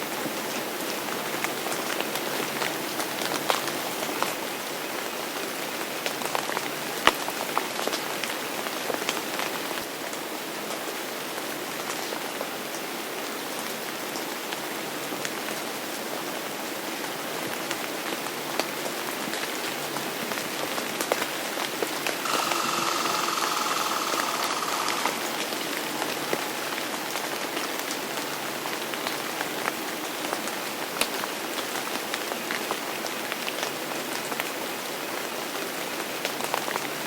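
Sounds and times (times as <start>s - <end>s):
steady rain falling: 0.0s - 22.3s, 22.9s - 37.0s.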